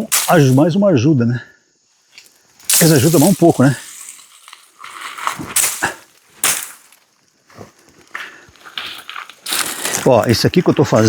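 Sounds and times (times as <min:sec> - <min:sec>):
branches rustling and snapping: 0:00.0 - 0:00.8, 0:02.1 - 0:11.0.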